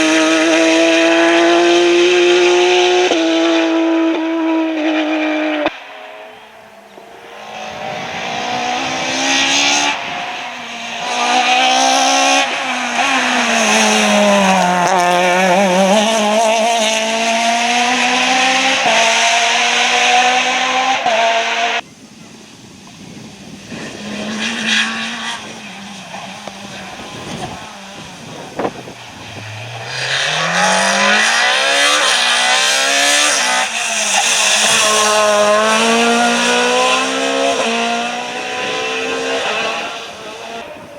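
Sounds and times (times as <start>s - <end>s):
rally car engine at full throttle: 0.0s - 21.9s, 22.6s - 40.9s.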